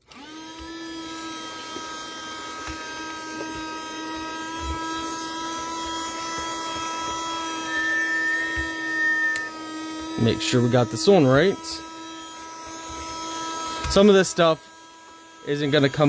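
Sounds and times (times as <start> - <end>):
mini vacuum motor whine: 0.0 - 16.0.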